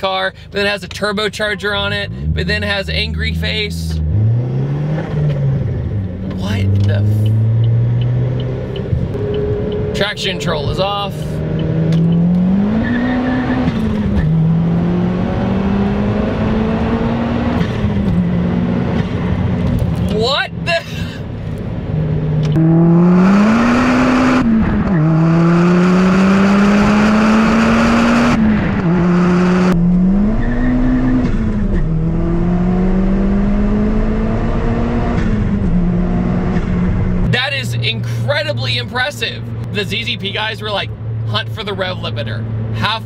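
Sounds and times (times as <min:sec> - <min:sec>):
car engine accelerating hard: 0:02.0 - 0:20.1, 0:21.4 - 0:39.6.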